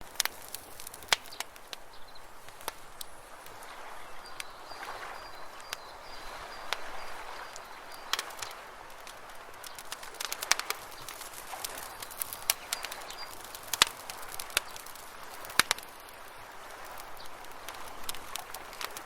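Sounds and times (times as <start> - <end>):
campfire crackling: 0.0 - 19.0
soft steady hiss: 0.0 - 19.0.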